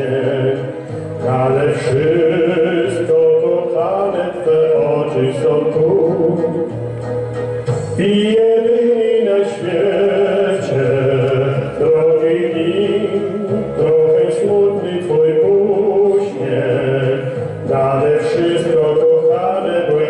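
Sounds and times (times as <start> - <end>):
man singing into a microphone: 0.0 - 6.8, 7.9 - 20.0
instrumental accompaniment: 0.0 - 20.0.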